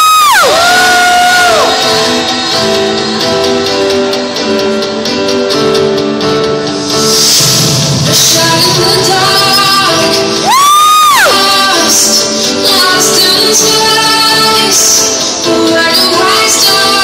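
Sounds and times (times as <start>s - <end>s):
dance-pop music over sound system: 0.0s - 17.0s.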